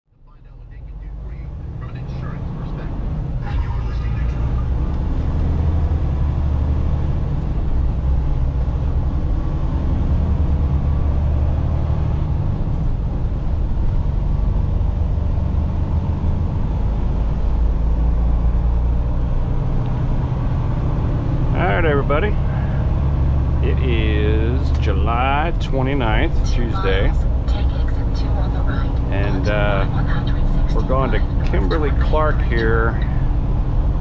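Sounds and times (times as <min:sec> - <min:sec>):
road noise: 0:00.1 - 0:34.0
truck diesel engine drone: 0:00.1 - 0:34.0.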